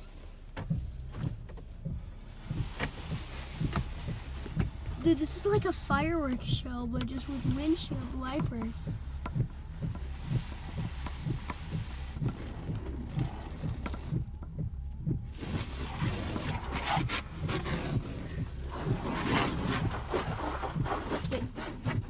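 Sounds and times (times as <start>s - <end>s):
low hum with regular pulses: 0.0s - 22.0s
water spraying against car: 0.0s - 22.0s.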